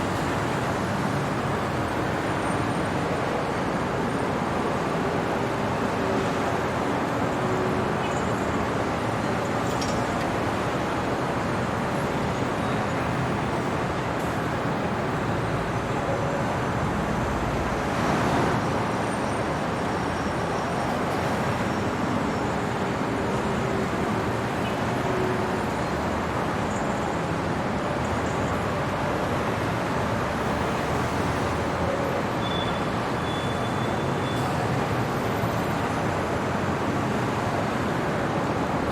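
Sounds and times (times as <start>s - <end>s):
city traffic noise: 0.0s - 38.9s.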